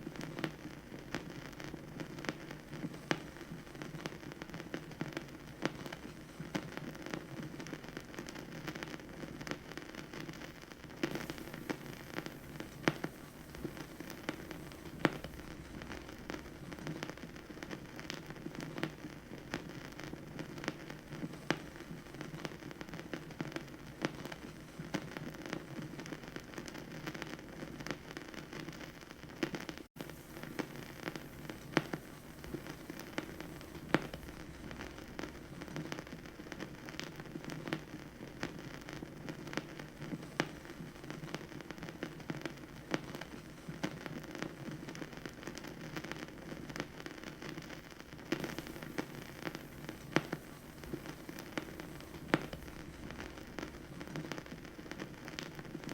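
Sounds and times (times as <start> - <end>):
vinyl record crackle and pops: 0.0 - 55.9.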